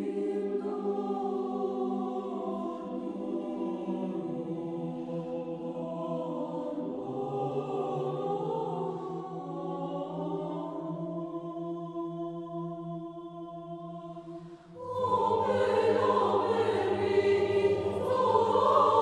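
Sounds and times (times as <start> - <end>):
choir singing a slow chant: 0.0 - 19.0.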